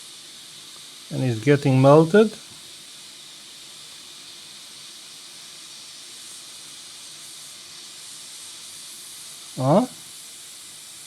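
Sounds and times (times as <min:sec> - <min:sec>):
hot air blower hissing: 0:00.0 - 0:11.0.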